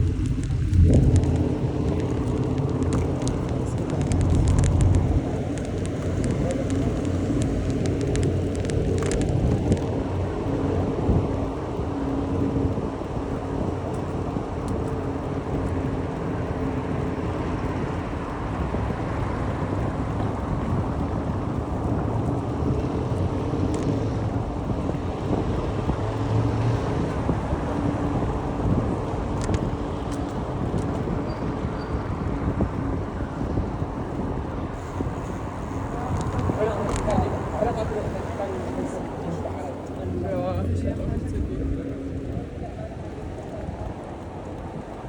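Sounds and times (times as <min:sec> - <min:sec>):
bicycle road noise rumbling: 0:00.0 - 0:45.0
wind on microphone: 0:00.0 - 0:45.0.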